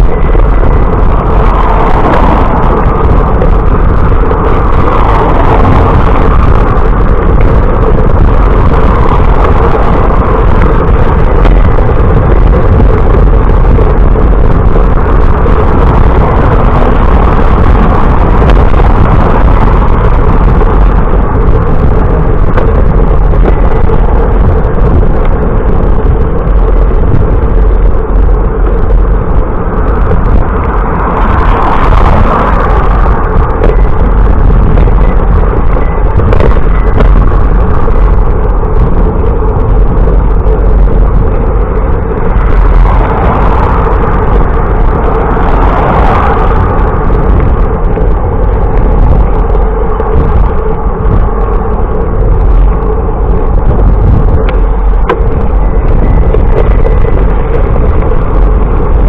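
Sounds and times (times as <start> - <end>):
constant hum: 0.0 - 59.0
wind buffeting microphone: 0.0 - 59.0.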